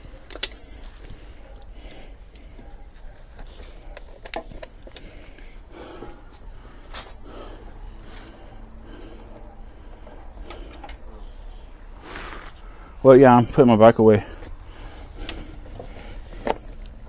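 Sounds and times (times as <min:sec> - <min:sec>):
person breathing hard and sniffing: 0:00.0 - 0:04.1, 0:04.7 - 0:13.0, 0:14.2 - 0:17.0.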